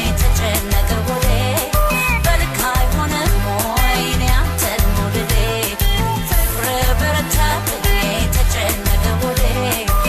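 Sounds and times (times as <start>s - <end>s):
upbeat song with drums and bass: 0.0s - 10.0s.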